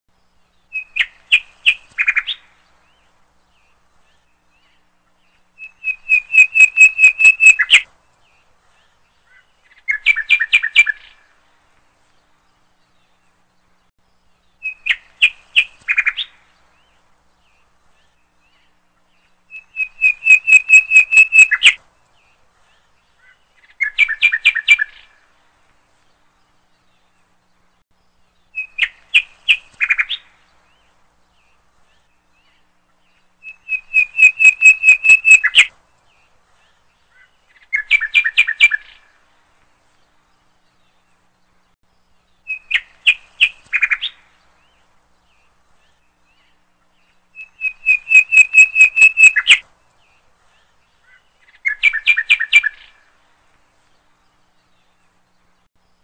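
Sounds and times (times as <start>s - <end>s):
bird song rapid chirps: 0.1s - 11.3s, 12.2s - 25.3s, 26.2s - 39.2s, 40.1s - 53.2s.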